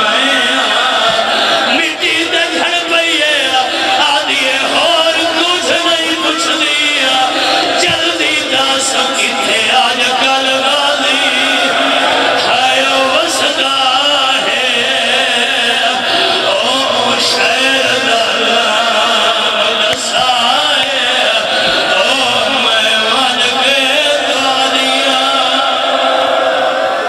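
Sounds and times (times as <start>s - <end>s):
crowd of men chanting: 0.0s - 27.0s.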